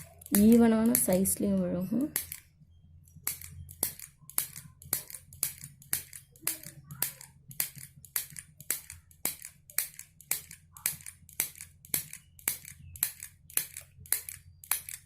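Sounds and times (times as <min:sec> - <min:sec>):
mini sewing machine clicking: 0:00.0 - 0:02.5, 0:03.2 - 0:15.0.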